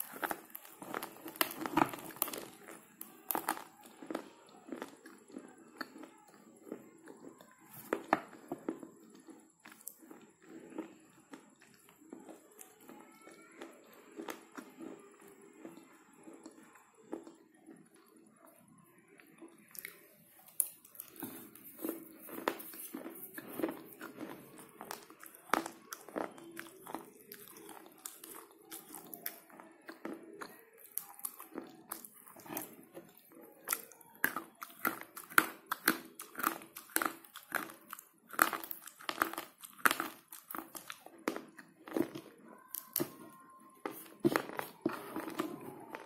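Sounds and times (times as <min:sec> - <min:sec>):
dry crunching while chewing: 0:00.0 - 0:46.0.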